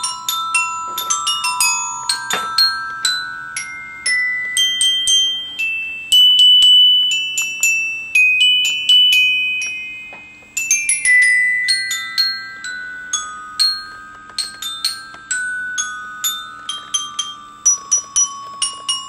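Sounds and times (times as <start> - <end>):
glockenspiel melody: 0.0 - 19.0.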